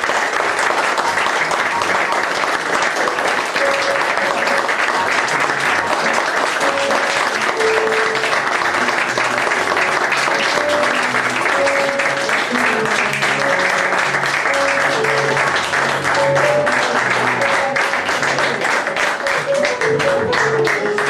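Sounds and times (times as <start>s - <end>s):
audience applauding: 0.0s - 21.0s
quiet music: 3.2s - 21.0s.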